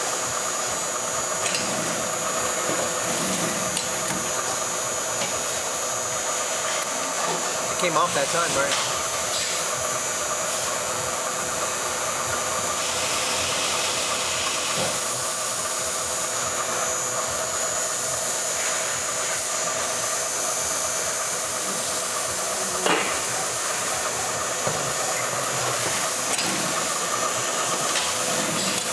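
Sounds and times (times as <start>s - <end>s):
molding machine humming: 0.0s - 28.9s.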